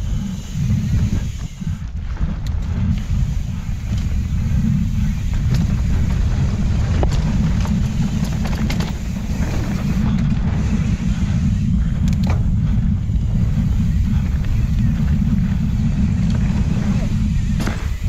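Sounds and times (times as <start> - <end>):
bike clicks and knocks: 0.0 - 18.0
wind rumbling on microphone: 0.0 - 18.0.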